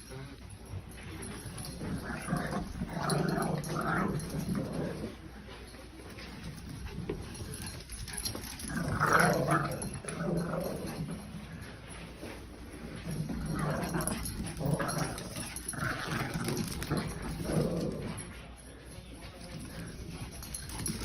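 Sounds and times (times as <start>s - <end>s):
dogs growling at play: 0.0s - 21.0s.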